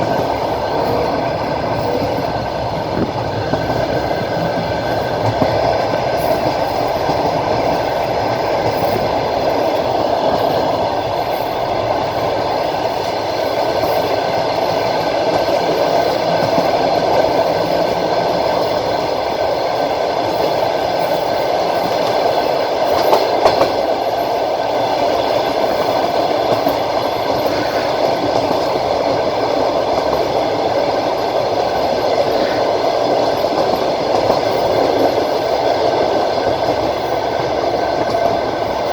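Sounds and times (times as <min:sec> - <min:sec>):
train clatter: 0:00.0 - 0:38.9
train wheels rolling on rails: 0:00.0 - 0:38.9.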